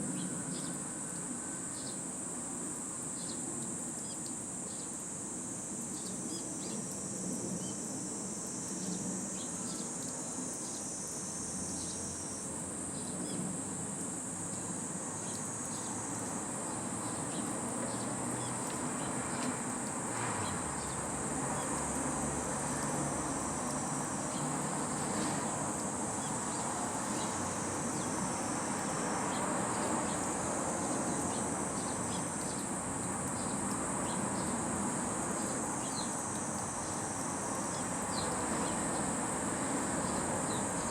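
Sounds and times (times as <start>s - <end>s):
cicadas shrilling: 0.0s - 40.9s.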